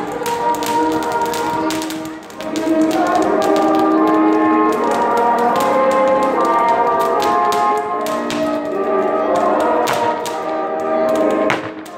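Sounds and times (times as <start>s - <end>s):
firework fountain crackling and popping: 0.0s - 11.9s
music with long held notes: 0.0s - 11.9s.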